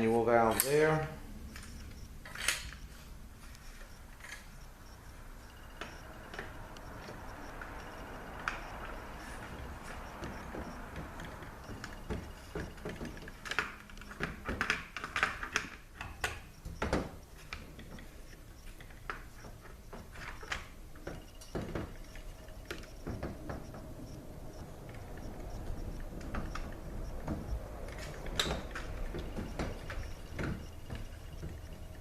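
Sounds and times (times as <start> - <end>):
parts clicking and knocking: 0.5 - 32.0.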